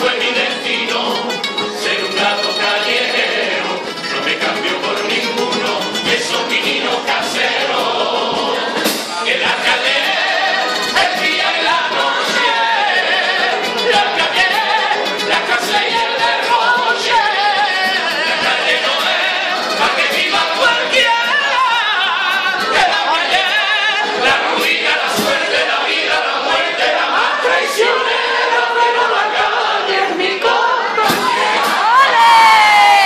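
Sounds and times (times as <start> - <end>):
group of voices singing in chorus: 0.0 - 33.0.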